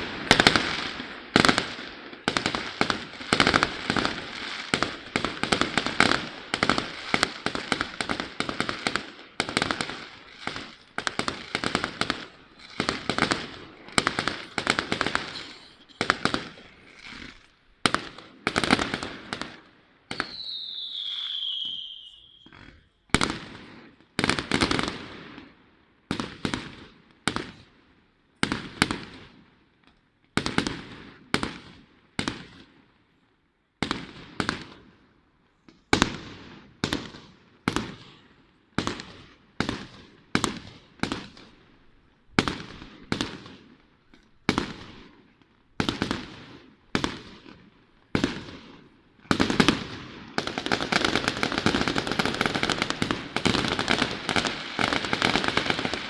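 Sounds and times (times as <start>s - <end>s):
fireworks crackling: 0.0s - 27.7s, 33.8s - 56.0s.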